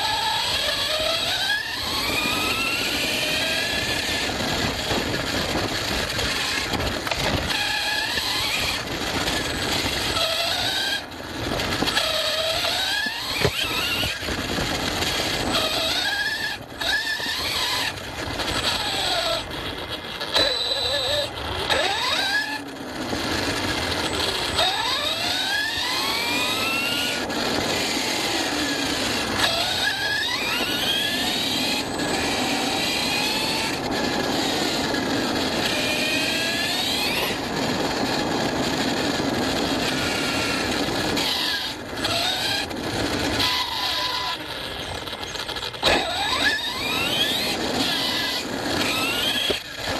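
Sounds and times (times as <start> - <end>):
electric motor whining: 0.0 - 49.9.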